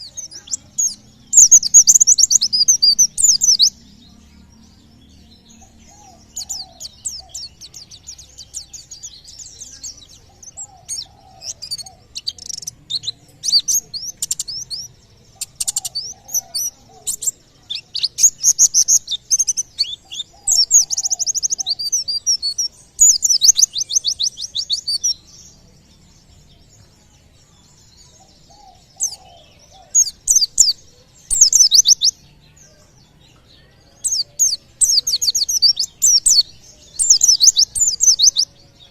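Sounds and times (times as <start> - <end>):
bird singing high trills: 0.0 - 32.9, 33.6 - 38.9.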